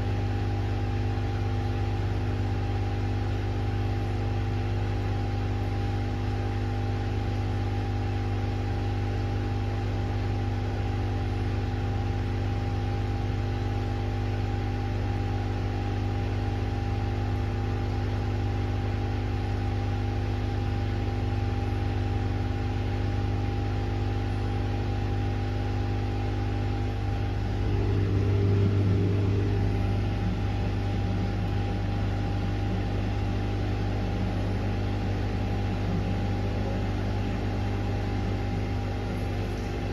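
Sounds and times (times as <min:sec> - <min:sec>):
washing machine humming: 0:00.0 - 0:39.9
washing machine low rumble: 0:00.0 - 0:39.9.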